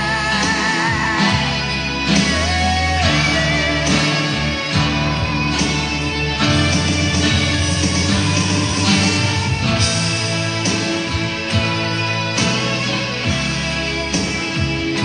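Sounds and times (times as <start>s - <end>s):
acoustic guitar chords: 0.0s - 15.0s
sliding guitar melody: 0.0s - 15.0s
steady low bass: 0.0s - 15.0s.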